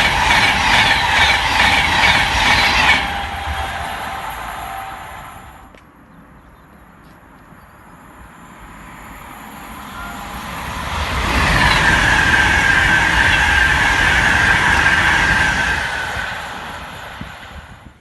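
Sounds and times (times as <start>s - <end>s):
train whine: 0.0s - 6.0s, 8.2s - 18.0s
high-speed train passing: 0.0s - 6.4s, 7.8s - 18.0s.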